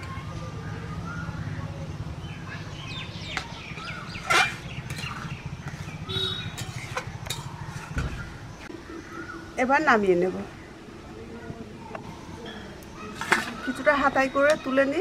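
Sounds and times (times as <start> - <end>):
small birds calling: 0.0 - 15.0.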